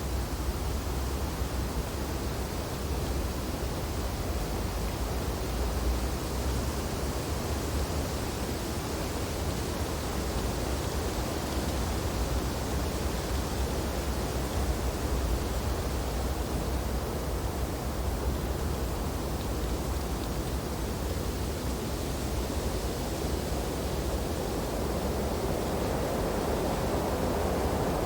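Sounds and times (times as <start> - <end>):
wind through tree branches: 0.0 - 28.0.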